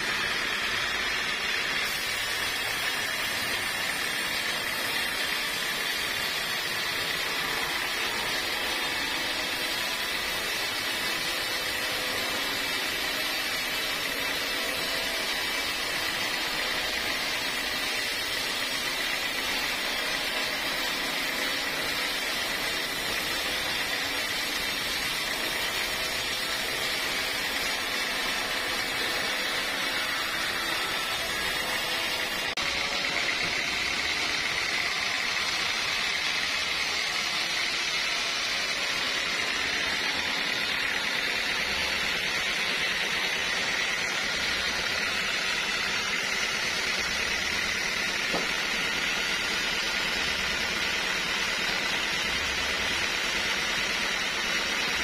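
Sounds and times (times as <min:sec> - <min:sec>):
band saw whine and hiss: 0:00.0 - 0:55.0.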